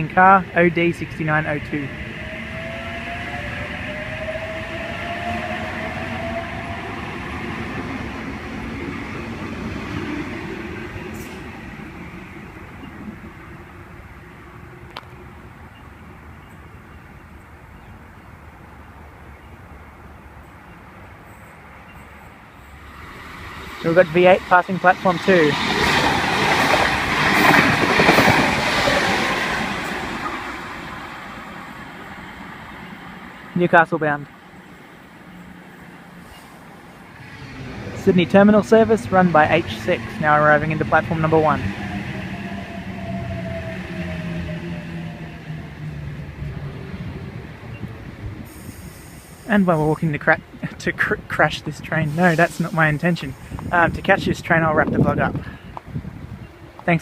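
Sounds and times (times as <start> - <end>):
electric train passing: 0.0 - 55.0
wheels rumbling on rails: 0.0 - 57.0.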